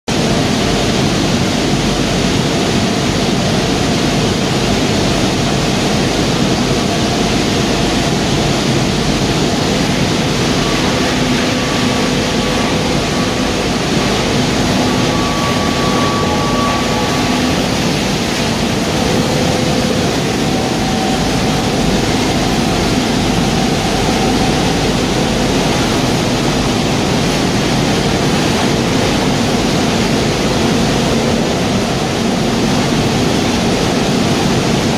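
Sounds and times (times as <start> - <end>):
faint steady hums: 0.1 - 34.9
tire shredder machinery running: 0.1 - 34.9.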